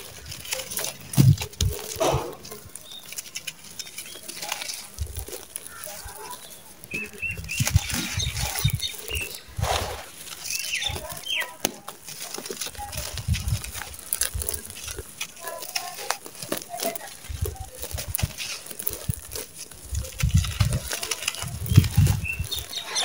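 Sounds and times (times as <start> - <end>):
grains spilling: 0.0 - 23.0
soil clods crunching in hands: 0.0 - 23.0.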